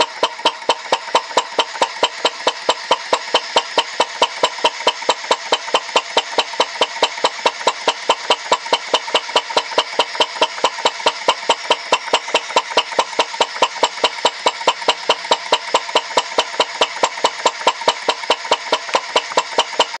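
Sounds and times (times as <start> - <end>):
model engine running: 0.0 - 20.0.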